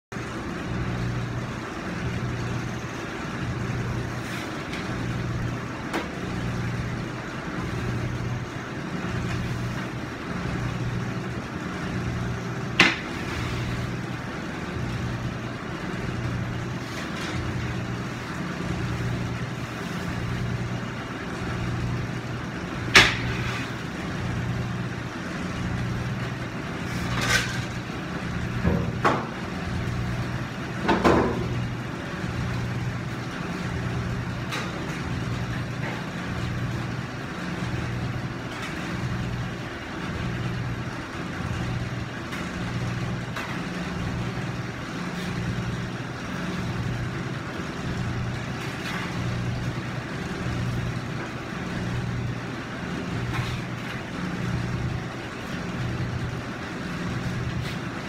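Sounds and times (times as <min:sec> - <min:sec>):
kitchen machinery humming: 0:00.1 - 0:58.0.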